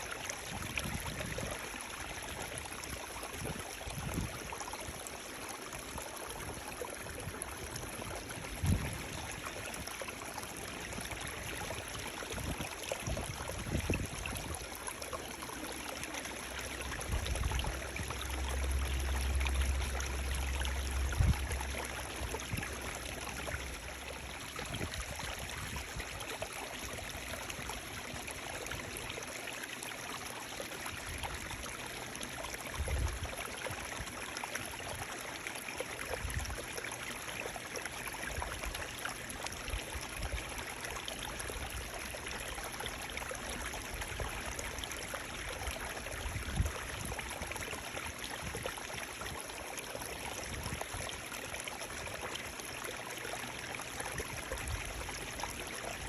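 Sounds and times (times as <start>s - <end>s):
running water flowing: 0.0s - 56.0s.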